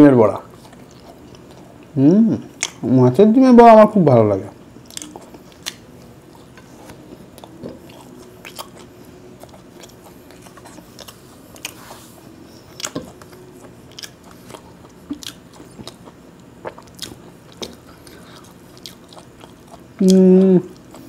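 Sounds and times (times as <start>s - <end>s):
person chewing crunchy food: 0.4s - 2.0s, 4.7s - 21.0s.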